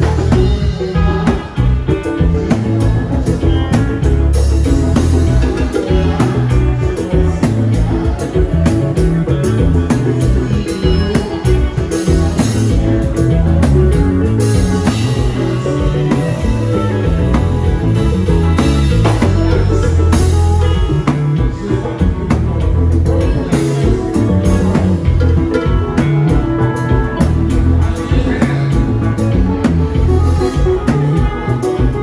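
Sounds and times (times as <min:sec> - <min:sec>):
drum kit beat: 0:00.0 - 0:32.0
electric bass: 0:00.0 - 0:32.0
electric guitar: 0:00.0 - 0:32.0
live band dance music: 0:00.0 - 0:32.0.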